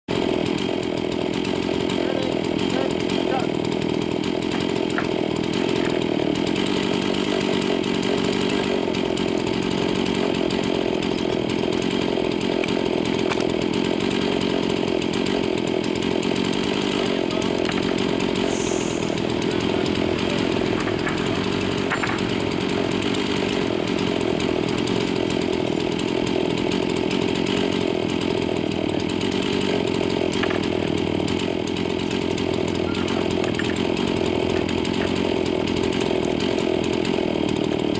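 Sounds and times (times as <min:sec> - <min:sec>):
chainsaw running: 0:00.1 - 0:37.9.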